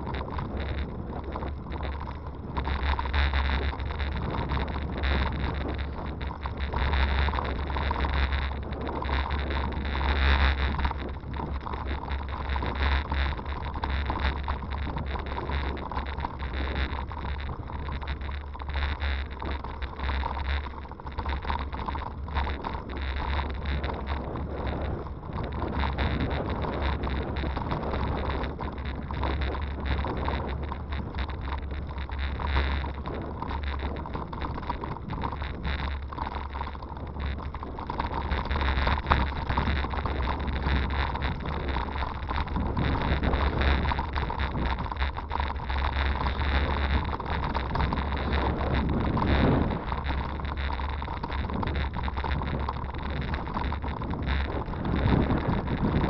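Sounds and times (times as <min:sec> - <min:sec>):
bike rattling on dirt path: 0:00.0 - 0:56.0
wind buffeting microphone: 0:00.0 - 0:56.0.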